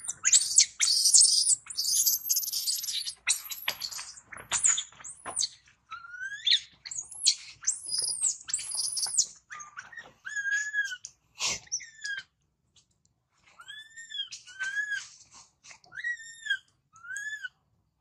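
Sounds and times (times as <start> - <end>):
baby monkey screaming: 0.0 - 12.3, 13.6 - 15.2, 15.9 - 17.6.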